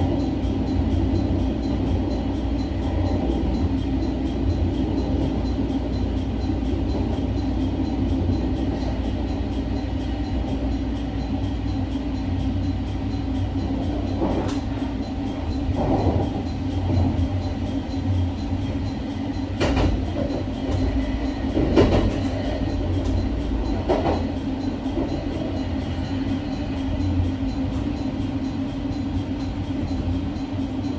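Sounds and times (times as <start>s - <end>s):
electric train humming: 0.0s - 30.9s.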